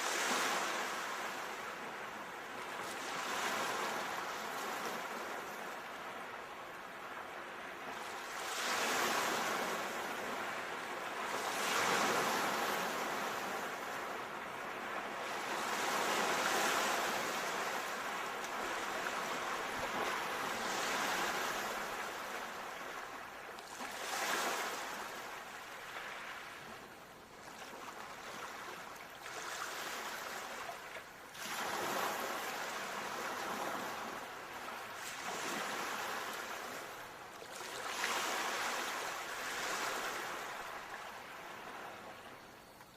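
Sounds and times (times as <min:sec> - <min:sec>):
ocean waves breaking on shore: 0:00.0 - 0:42.9.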